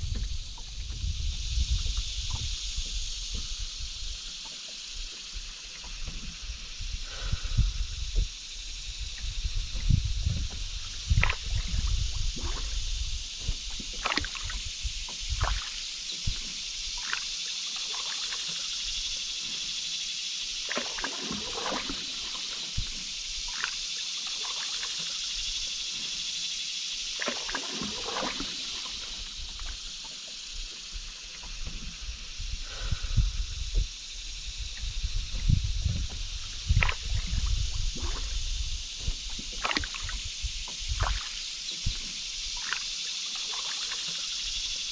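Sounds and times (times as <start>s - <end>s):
paddle pulling through water: 0.0s - 44.9s
steady high hiss: 0.0s - 44.9s
small splashes and drips: 0.1s - 44.9s.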